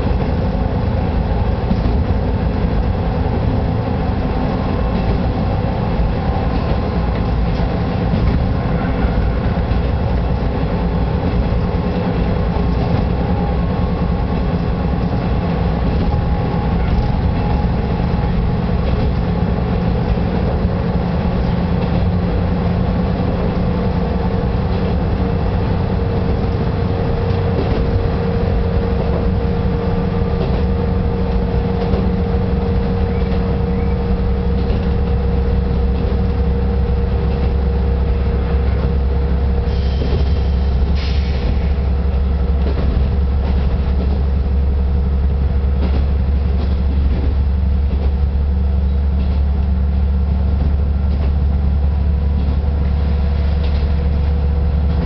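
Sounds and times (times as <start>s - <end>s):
diesel engine drone: 0.0s - 55.0s
wheels on rail: 0.0s - 55.0s.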